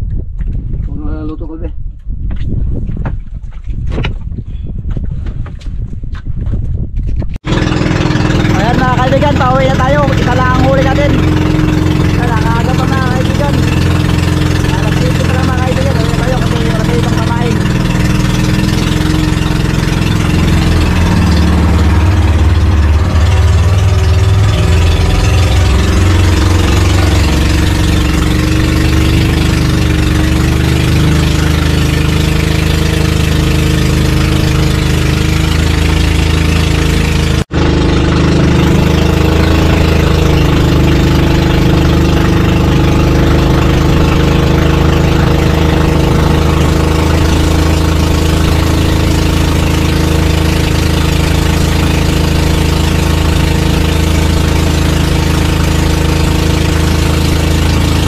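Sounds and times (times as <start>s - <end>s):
boat engine running: 7.2s - 58.0s.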